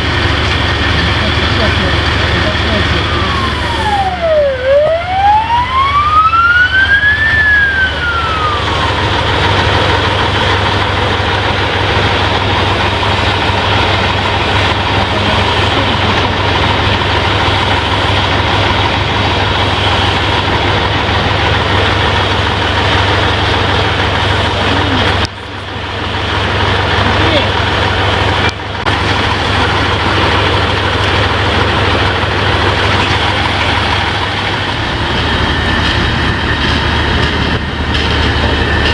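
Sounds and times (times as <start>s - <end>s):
vehicle engines rumbling: 0.0s - 38.9s
emergency vehicle siren: 0.7s - 38.9s.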